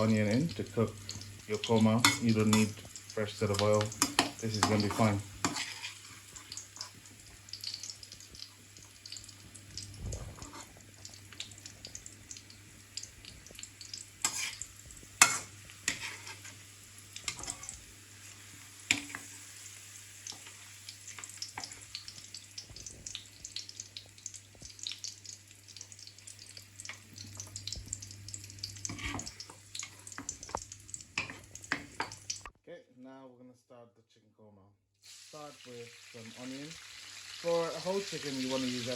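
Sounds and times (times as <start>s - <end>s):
oil sizzling in a frying pan: 0.0s - 32.5s, 35.0s - 38.9s
stirring in a pan: 0.0s - 32.5s.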